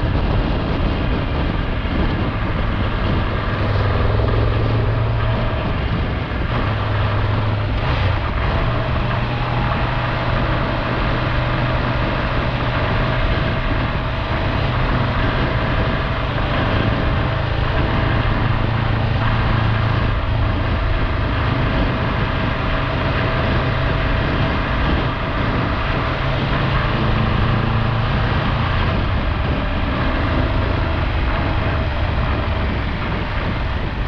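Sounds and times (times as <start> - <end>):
motorcycle engine running: 0.0 - 34.0
wind and road noise: 0.0 - 34.0.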